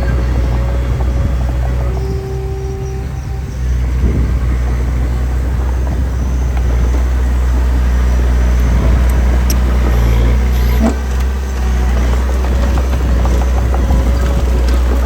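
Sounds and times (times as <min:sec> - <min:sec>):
brief engine whine: 0:00.0 - 0:15.0
diesel engine humming: 0:00.0 - 0:15.0.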